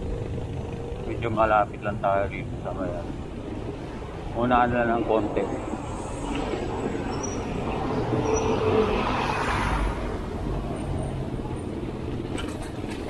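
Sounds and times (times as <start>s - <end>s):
road traffic rumble: 0.0s - 13.0s
vehicle passing: 0.0s - 13.0s.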